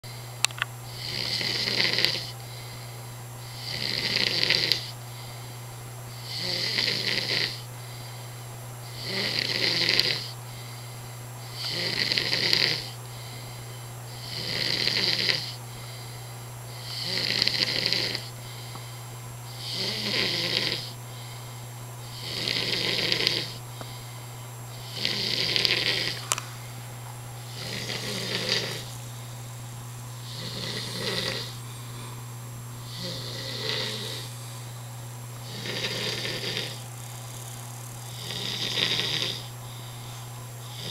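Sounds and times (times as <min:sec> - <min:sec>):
steady low hum: 0:00.0 - 0:40.9
man snoring: 0:00.1 - 0:18.9, 0:19.5 - 0:24.1, 0:24.7 - 0:26.3, 0:27.4 - 0:29.1, 0:30.2 - 0:32.2, 0:32.8 - 0:34.7, 0:35.4 - 0:40.9.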